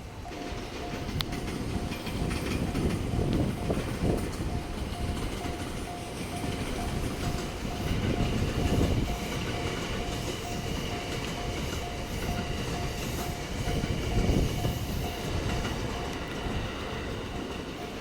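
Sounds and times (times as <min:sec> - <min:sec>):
level crossing warning bell: 0:00.0 - 0:18.0
train wheels rumbling: 0:00.0 - 0:18.0.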